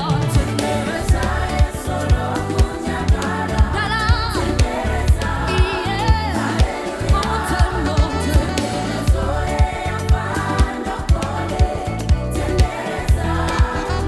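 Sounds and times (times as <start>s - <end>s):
drums keeping a steady beat: 0.0s - 14.0s
keyboard chords: 0.0s - 14.0s.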